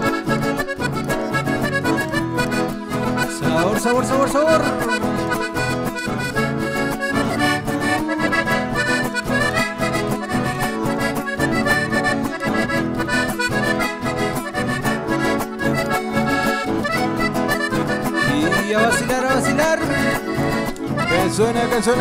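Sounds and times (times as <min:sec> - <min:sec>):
piano accordion melody: 0:00.0 - 0:22.0
strummed acoustic guitars: 0:00.0 - 0:22.0.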